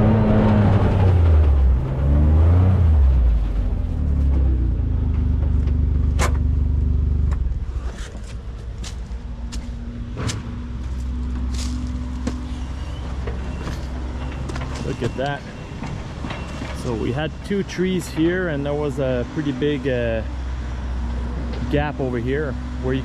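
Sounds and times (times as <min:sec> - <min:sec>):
motor running with low rumble: 0:00.0 - 0:23.0.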